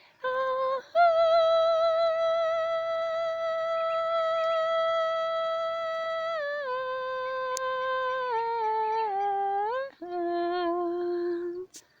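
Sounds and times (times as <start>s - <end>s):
woman humming a slow melody: 0.2s - 11.9s.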